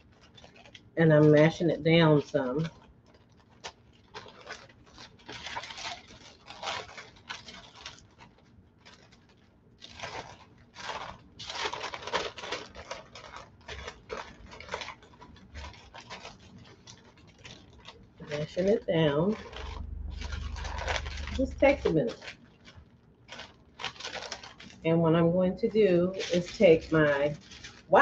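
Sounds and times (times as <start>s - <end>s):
paper rustling and crinkling: 0.0s - 24.9s, 25.6s - 28.0s.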